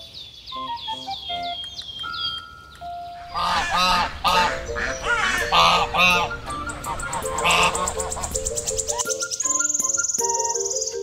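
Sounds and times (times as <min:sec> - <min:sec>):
light background music: 0:00.5 - 0:11.0
swans calling: 0:00.6 - 0:11.0.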